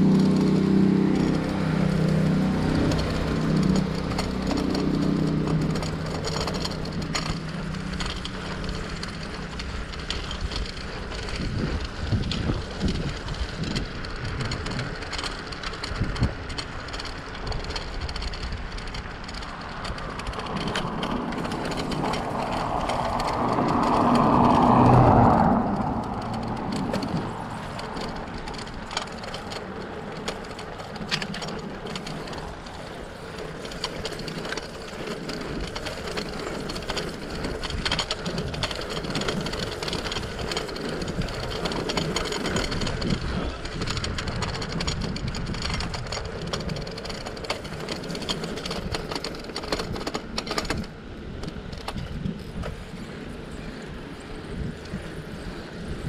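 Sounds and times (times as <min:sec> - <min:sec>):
bicycle chain ticking: 0:00.0 - 0:56.0
bicycle tyre and road noise: 0:00.0 - 0:56.0
motor vehicle passing: 0:00.0 - 0:56.0.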